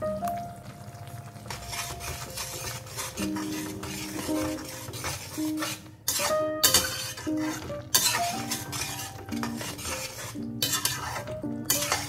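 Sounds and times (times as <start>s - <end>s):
metal spatula scraping steel pan: 1.5s - 12.0s.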